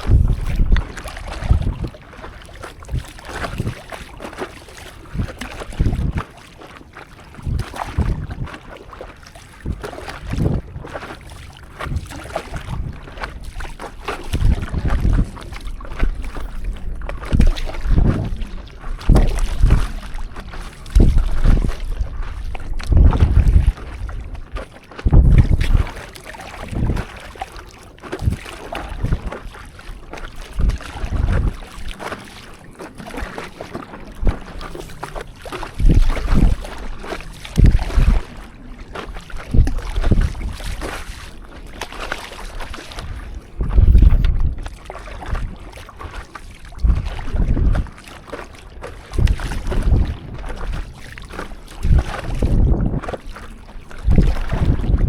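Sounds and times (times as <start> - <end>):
water sloshing and splashing: 0.0 - 55.0
wind rumbling on microphone: 0.0 - 55.0.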